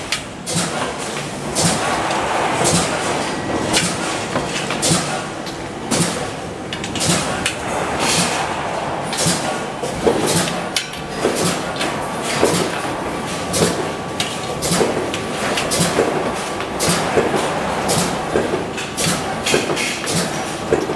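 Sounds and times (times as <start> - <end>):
factory machine noise: 0.0 - 20.9.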